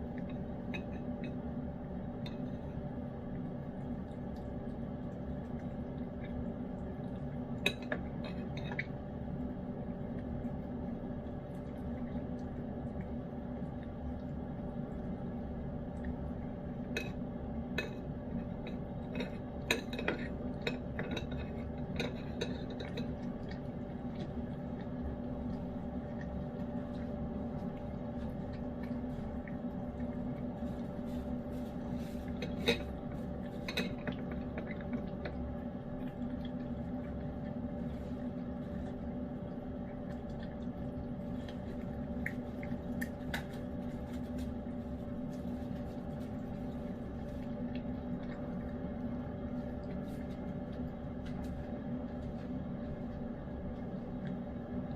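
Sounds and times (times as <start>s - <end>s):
cat chewing and lapping: 0.0s - 54.9s
steady background hum: 0.0s - 54.9s.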